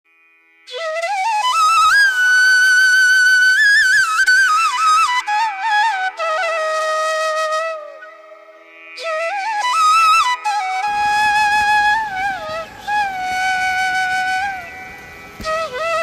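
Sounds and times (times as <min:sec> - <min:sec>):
flute playing slow melody: 0:00.6 - 0:16.0.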